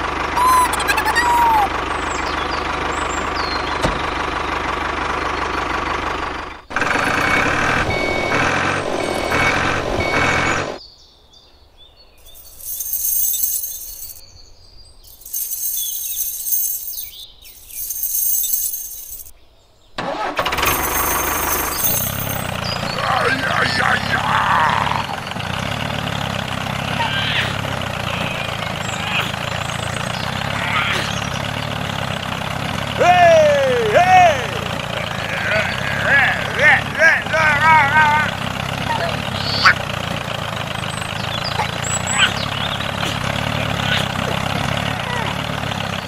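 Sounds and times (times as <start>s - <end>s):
tractor engine running: 0.0s - 10.8s, 12.3s - 14.2s, 15.1s - 19.3s, 20.0s - 46.0s.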